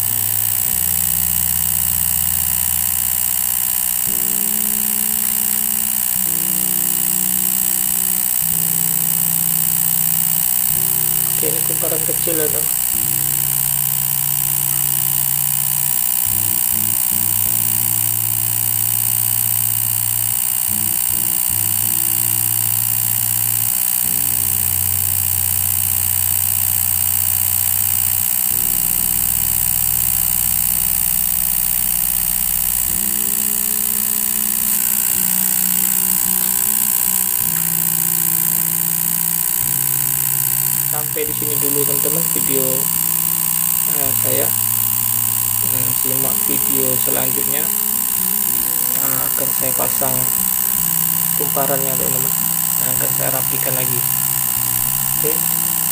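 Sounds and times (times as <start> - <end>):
faint high whine: 0.0 - 55.9
motor humming: 0.0 - 55.9.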